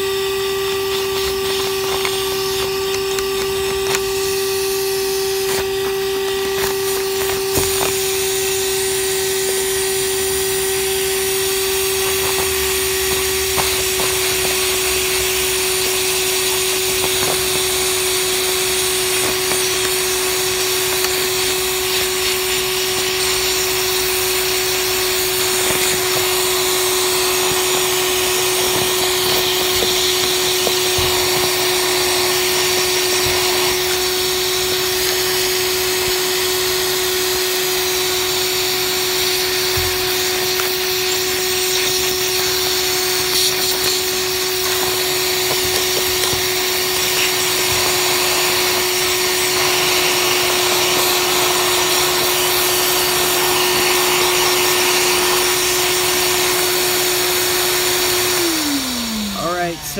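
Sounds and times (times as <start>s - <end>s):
vacuum motor whine: 0.0s - 59.9s.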